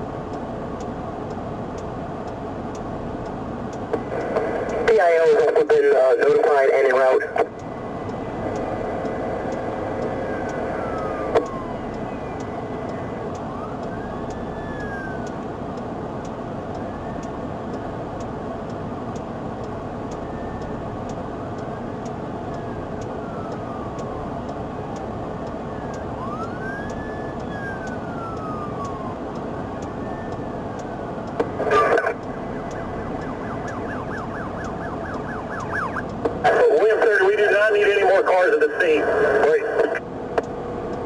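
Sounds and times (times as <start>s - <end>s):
faint siren wailing: 0.0s - 3.3s, 3.9s - 41.0s
vehicle and road noise: 0.0s - 41.0s.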